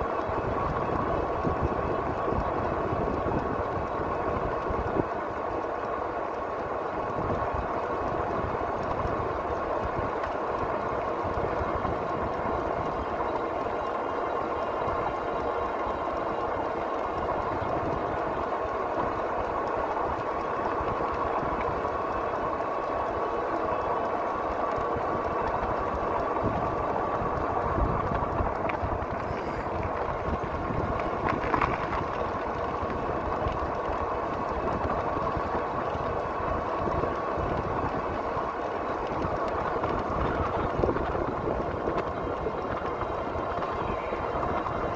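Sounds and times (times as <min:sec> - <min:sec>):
bike tyre and drivetrain hum: 0:00.0 - 0:44.9
faint motor whine: 0:00.0 - 0:44.9.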